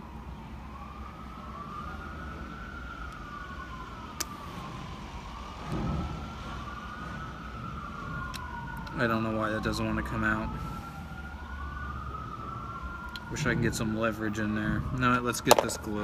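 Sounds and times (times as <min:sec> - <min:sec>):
siren wailing: 0:00.0 - 0:16.0.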